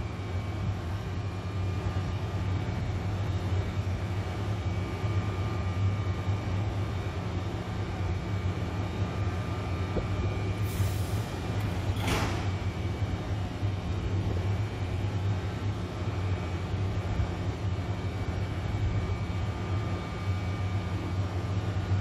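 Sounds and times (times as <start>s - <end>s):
train low hum: 0.0s - 22.0s.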